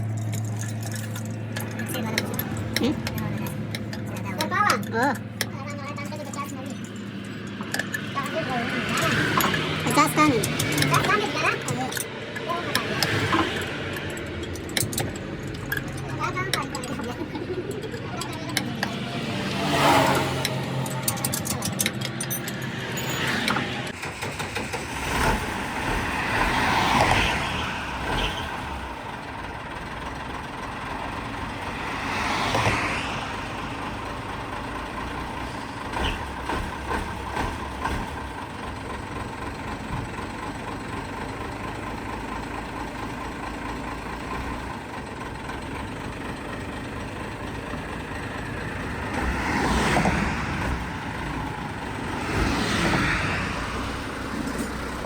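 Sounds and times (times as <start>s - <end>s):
highway traffic rumble: 0.0s - 55.0s
vehicles passing by: 0.0s - 55.0s.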